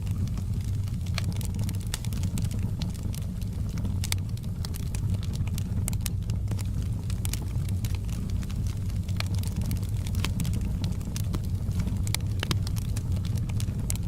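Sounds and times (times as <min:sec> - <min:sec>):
fire crackles and pops: 0:00.0 - 0:14.0
fire low rumble: 0:00.0 - 0:14.0.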